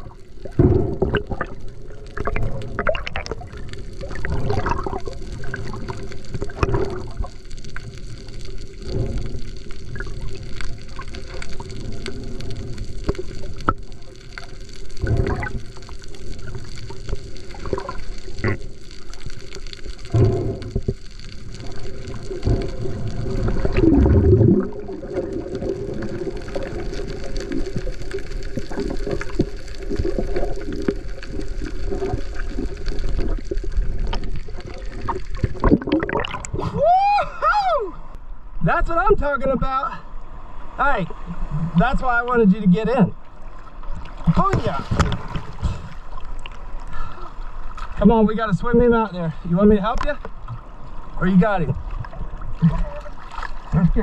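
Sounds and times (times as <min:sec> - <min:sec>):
underwater rumbling and bubbling: 0:00.0 - 0:54.0.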